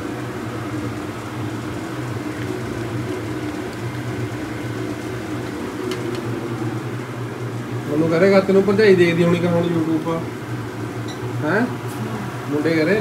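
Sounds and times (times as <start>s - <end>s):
fan motor humming: 0.0s - 13.0s.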